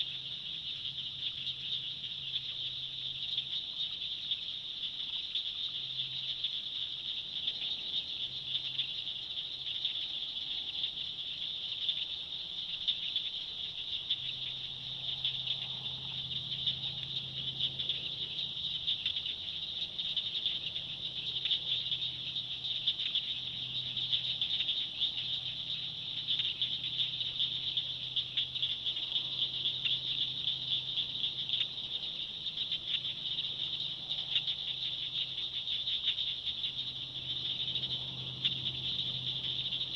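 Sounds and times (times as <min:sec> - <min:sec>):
insects and frogs trilling: 0:00.0 - 0:39.9.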